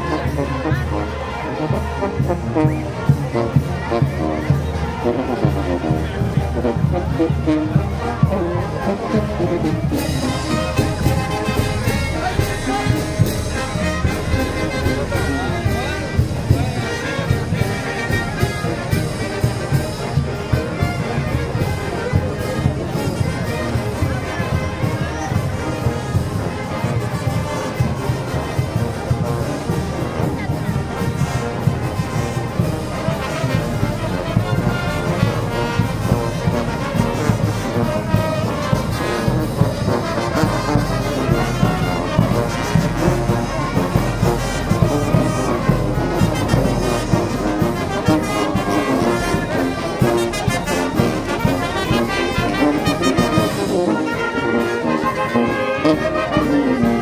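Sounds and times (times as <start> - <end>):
marching brass band playing: 0.0 - 57.0.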